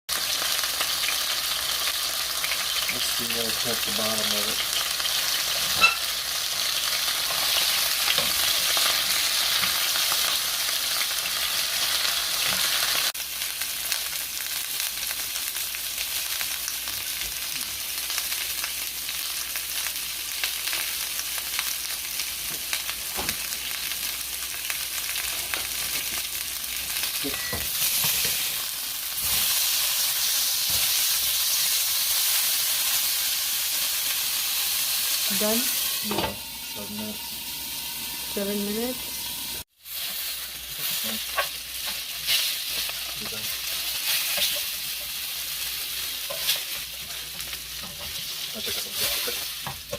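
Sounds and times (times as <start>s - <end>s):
chicken sizzling in a pan: 0.1s - 49.9s.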